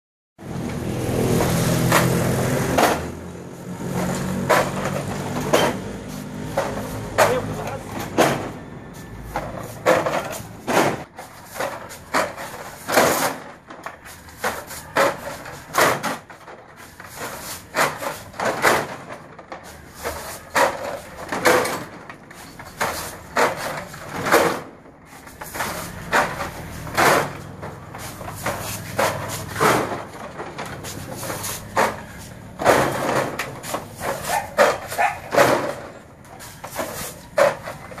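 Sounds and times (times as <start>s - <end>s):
plastic crates clattering: 1.1s - 38.0s.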